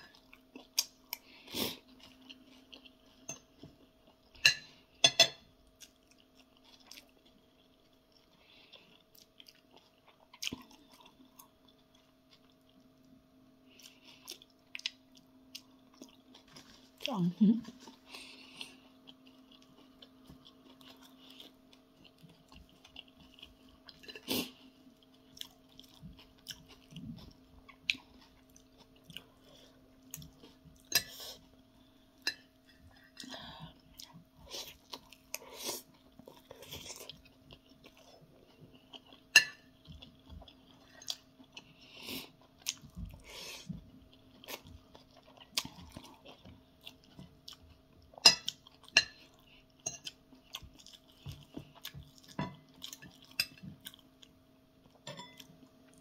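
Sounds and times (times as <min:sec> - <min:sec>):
faint steady hum: 0:00.0 - 0:56.0
chewing and mouth sounds: 0:05.7 - 0:31.6, 0:32.3 - 0:56.0.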